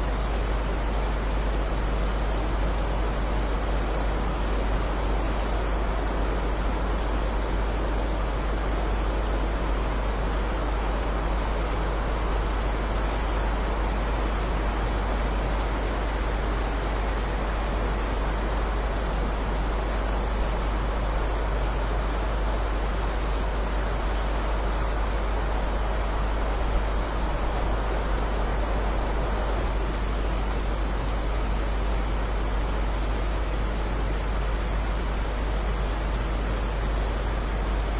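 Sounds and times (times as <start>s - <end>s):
heavy rain: 0.0s - 37.9s.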